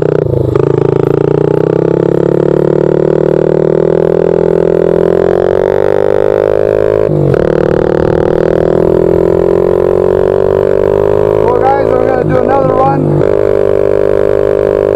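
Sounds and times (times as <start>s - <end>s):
small motorbike engine revving: 0.0s - 14.9s.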